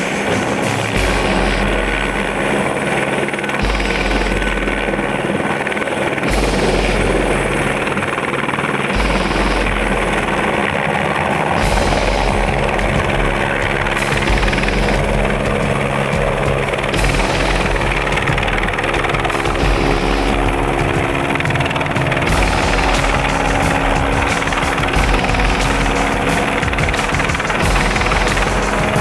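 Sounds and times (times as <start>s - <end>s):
helicopter running: 0.0s - 29.0s.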